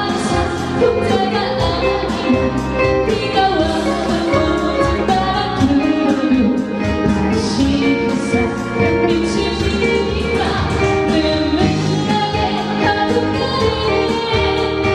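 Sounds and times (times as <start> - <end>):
instrumental accompaniment with beat: 0.0 - 14.9
woman singing: 0.0 - 14.9.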